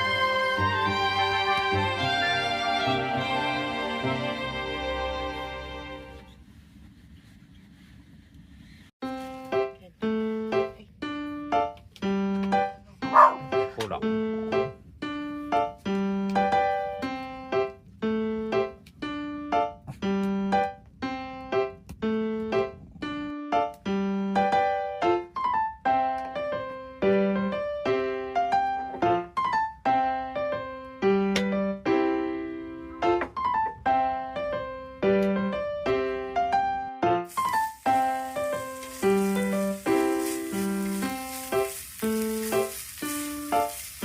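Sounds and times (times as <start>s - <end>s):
gentle piano melody: 0.0s - 6.3s, 9.0s - 44.0s.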